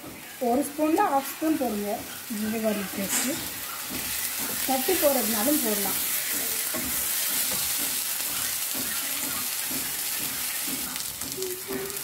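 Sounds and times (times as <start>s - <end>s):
onions sizzling in frying pan: 0.0s - 12.0s
wooden spatula stirring: 0.0s - 12.0s.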